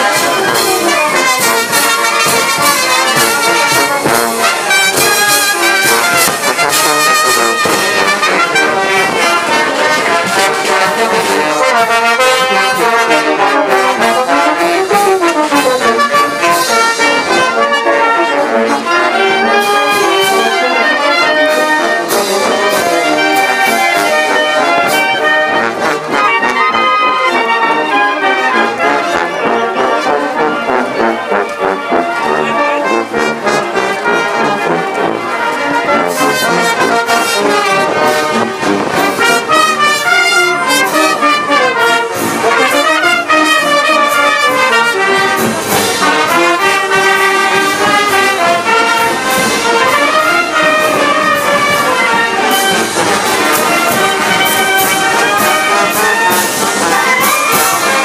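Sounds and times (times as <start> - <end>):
brass band playing dance music: 0.0 - 58.0.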